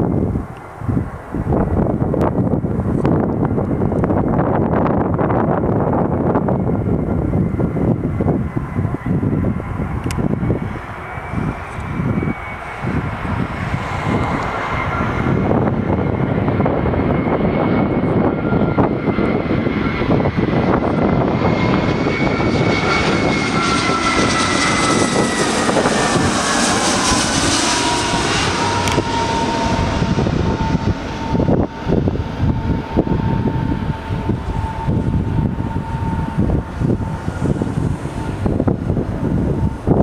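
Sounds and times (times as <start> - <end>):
jet engine roar with whine: 0.0 - 40.0.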